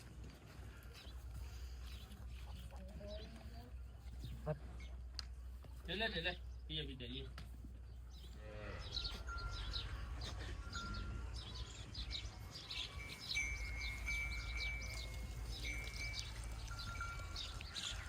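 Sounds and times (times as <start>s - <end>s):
birds chirping: 0.6s - 18.0s.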